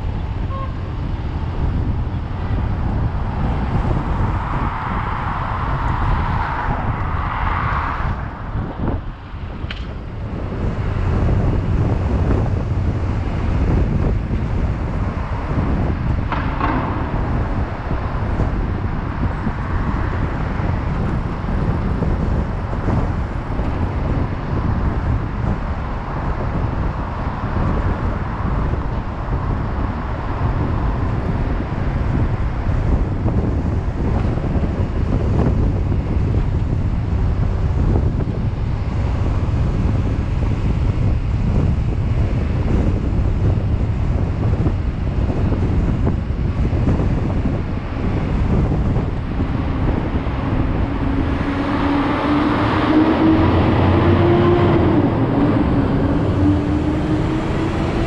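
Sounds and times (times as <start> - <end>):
street traffic rumble: 0.0 - 58.0
wind buffeting microphone: 0.0 - 58.0.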